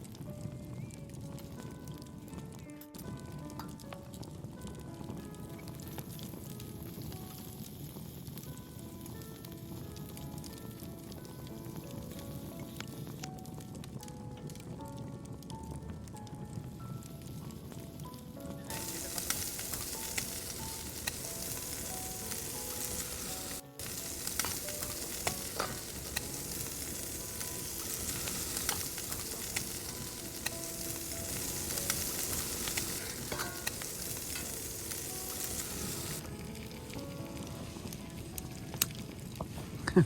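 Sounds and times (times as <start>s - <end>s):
meat sizzling over charcoal: 0.0s - 40.0s
soft background music: 0.0s - 40.0s.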